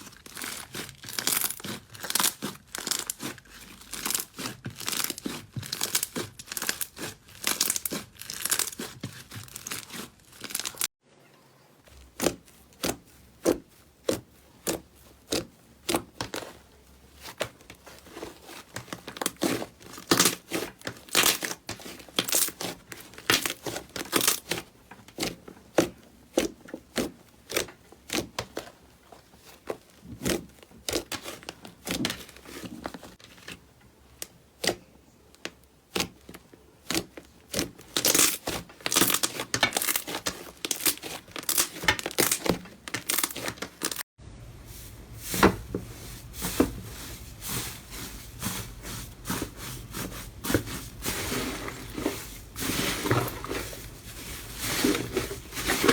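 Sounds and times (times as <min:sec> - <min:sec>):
slime squishing: 0:00.0 - 0:10.9, 0:11.9 - 0:55.9.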